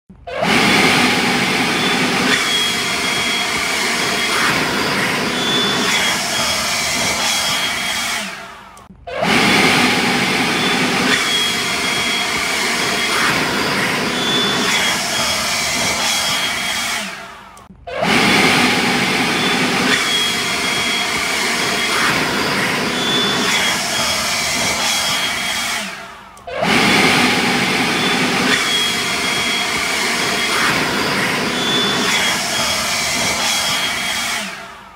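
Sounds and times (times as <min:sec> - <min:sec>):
leaf blower running: 0:00.4 - 0:08.6, 0:09.2 - 0:17.4, 0:18.0 - 0:34.8.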